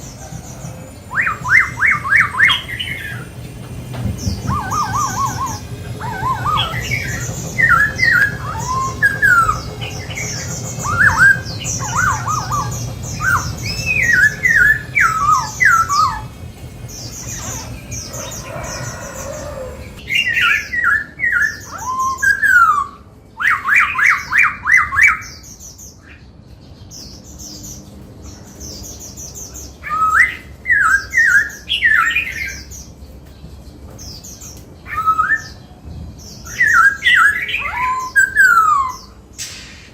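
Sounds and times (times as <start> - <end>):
bird singing whistled notes: 0.0 - 26.1, 28.7 - 32.9, 34.4 - 39.7.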